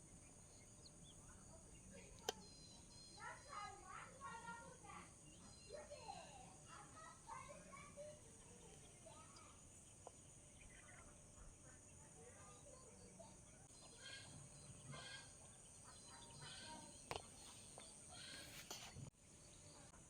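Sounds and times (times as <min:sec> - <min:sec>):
faint distant voices: 0:00.0 - 0:20.0.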